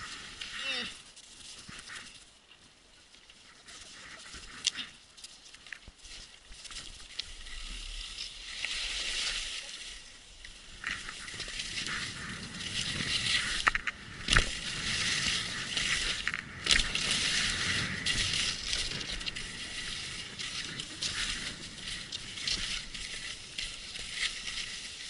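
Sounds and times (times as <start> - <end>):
skis scraping over snow: 0.0 - 25.0.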